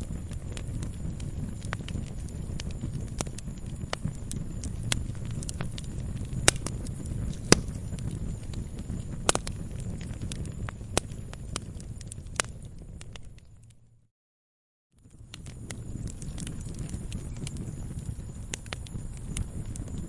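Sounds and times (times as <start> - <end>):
logs crackling and popping: 0.0 - 13.8, 15.0 - 20.0
flames rumbling: 0.0 - 13.9, 15.0 - 20.0.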